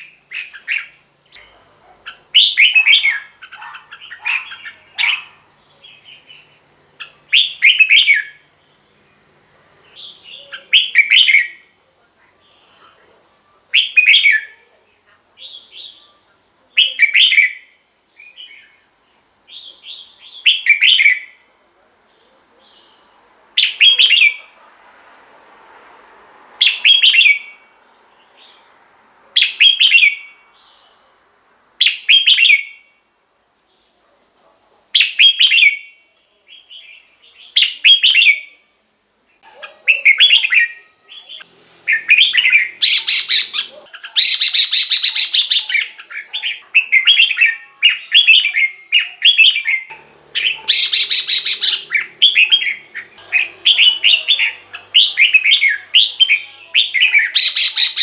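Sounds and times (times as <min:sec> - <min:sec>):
bird singing song phrases: 0:00.0 - 0:24.6, 0:26.5 - 0:28.8, 0:29.4 - 0:31.2, 0:31.8 - 0:33.0, 0:35.0 - 0:38.7, 0:39.3 - 0:58.0.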